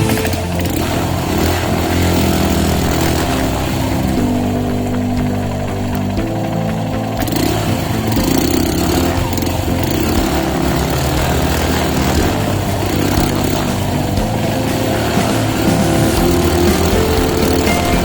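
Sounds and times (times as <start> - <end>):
motorcycle engine running: 0.0 - 18.0
road and wind noise: 0.0 - 18.0.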